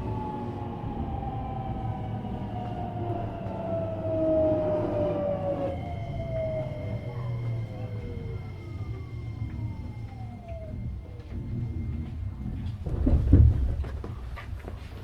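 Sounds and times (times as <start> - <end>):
train motors whining: 0.0 - 13.2
low train running rumble: 0.0 - 15.0.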